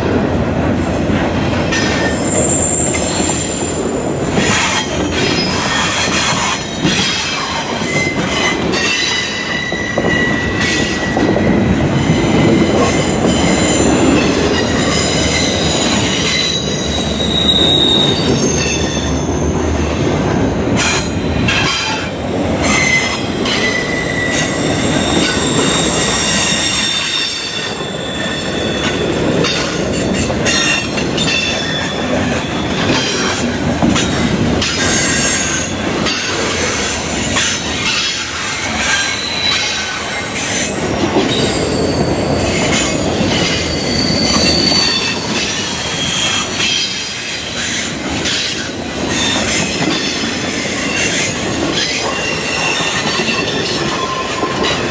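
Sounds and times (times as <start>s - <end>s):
train wheels rumbling and clattering: 0.0s - 54.9s
wheels squealing: 1.7s - 54.9s.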